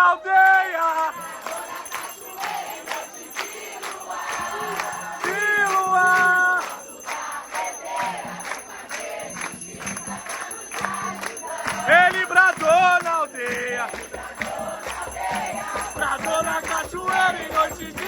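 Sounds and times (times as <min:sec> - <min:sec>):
percussion beat: 0:00.0 - 0:18.0
voices singing: 0:00.0 - 0:18.0.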